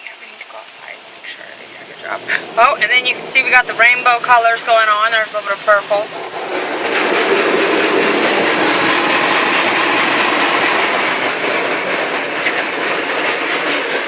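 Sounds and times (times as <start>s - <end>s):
car wash spray and machinery: 0.0s - 14.0s.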